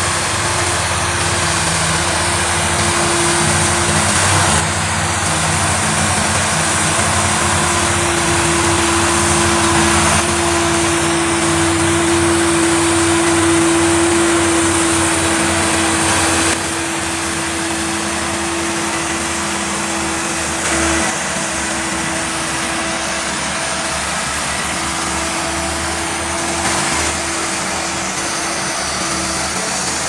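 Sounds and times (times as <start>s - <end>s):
heavy diesel engines droning: 0.0s - 30.0s.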